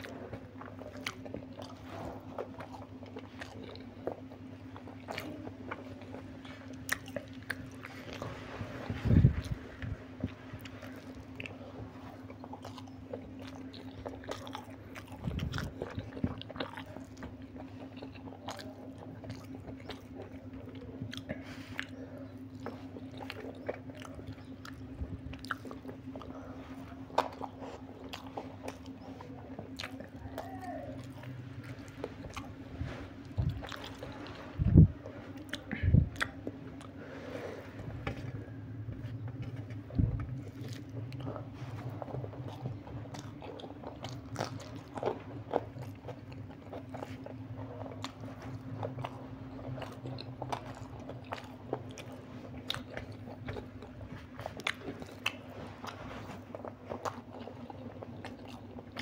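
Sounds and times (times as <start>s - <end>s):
person chewing food: 0.0s - 59.0s
steady low hum: 0.0s - 59.0s.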